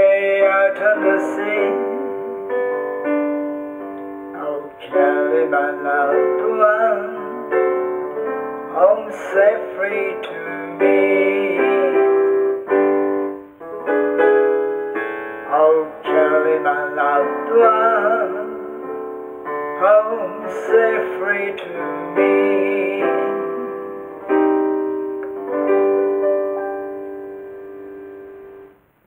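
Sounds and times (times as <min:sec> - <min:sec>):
electronic keyboard piano chords: 0:00.0 - 0:28.9.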